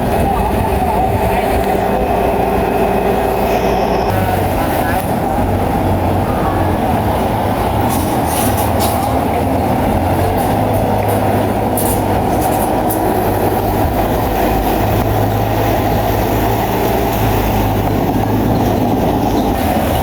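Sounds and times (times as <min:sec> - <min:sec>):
bulldozer diesel engine: 0:00.0 - 0:20.0
steel tracks clattering: 0:00.0 - 0:20.0.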